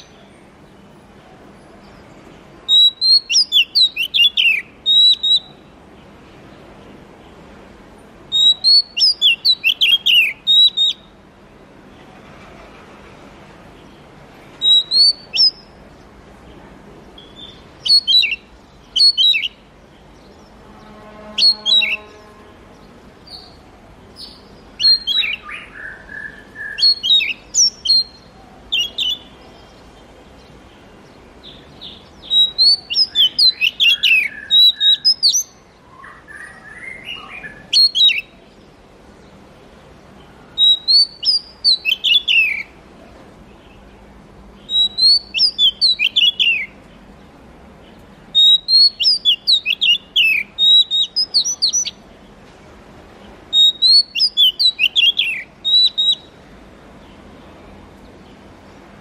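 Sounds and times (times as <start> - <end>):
bird singing: 0.0 - 1.0, 1.8 - 6.3, 8.3 - 11.3, 13.8 - 39.4, 40.1 - 42.8, 44.6 - 47.1, 47.8 - 52.3, 53.2 - 58.8.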